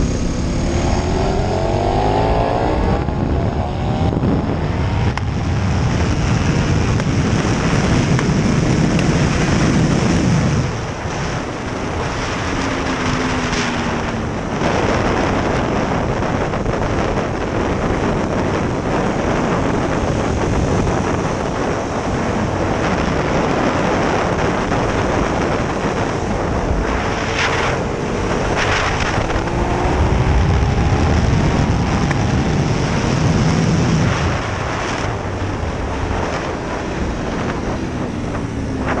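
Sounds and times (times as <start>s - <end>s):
motorcycle engine accelerating: 0.0s - 39.0s
wind rush on microphone: 0.0s - 39.0s.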